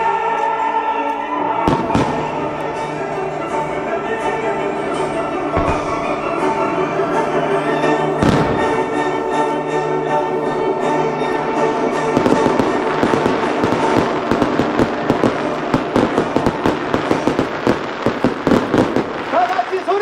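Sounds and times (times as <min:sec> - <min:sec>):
orchestral music: 0:00.0 - 0:20.0
fireworks bangs and crackling: 0:01.4 - 0:20.0.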